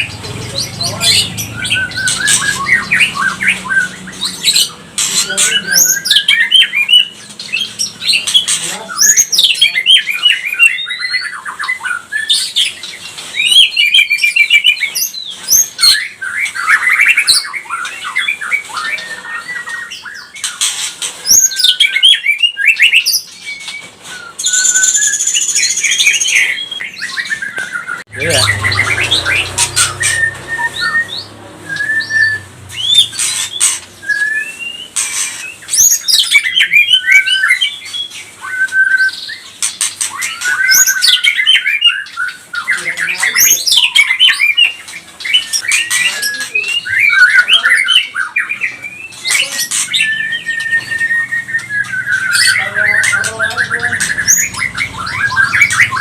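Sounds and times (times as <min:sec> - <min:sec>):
songbird whistling and chattering: 0:00.0 - 0:56.0.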